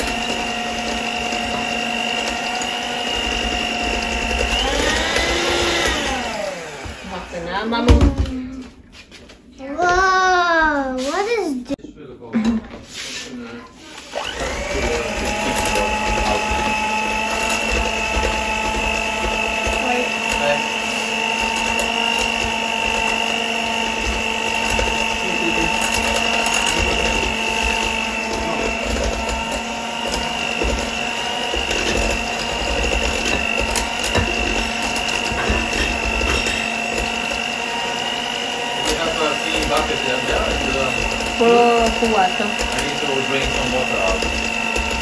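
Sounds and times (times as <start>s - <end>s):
electric hand mixer whining: 0.0s - 8.6s, 13.8s - 45.0s.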